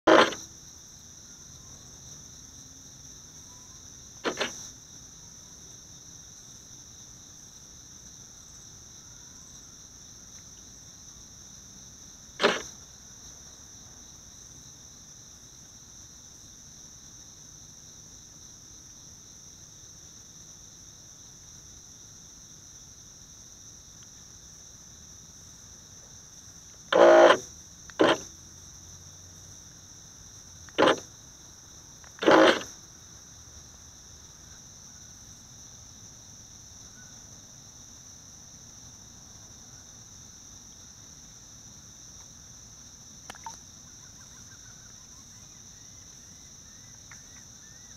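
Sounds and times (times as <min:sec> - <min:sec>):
insect chorus: 0:00.0 - 0:47.9.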